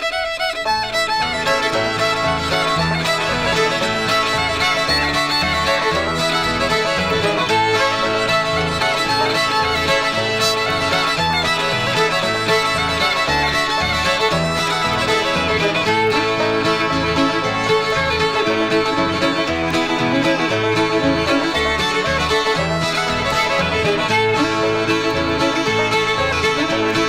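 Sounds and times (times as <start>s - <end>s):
fast fiddle tune: 0.0s - 27.0s
alternating low backing notes: 1.0s - 27.0s.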